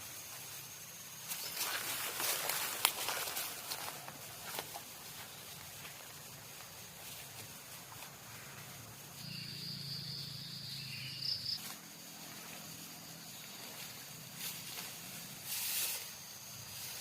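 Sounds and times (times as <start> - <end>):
cricket trilling: 0.0 - 17.0
faint background hiss: 0.0 - 17.0.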